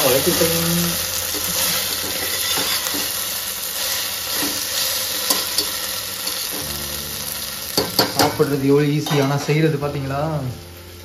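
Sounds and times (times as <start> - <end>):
onions sizzling in a pot: 0.0 - 11.0.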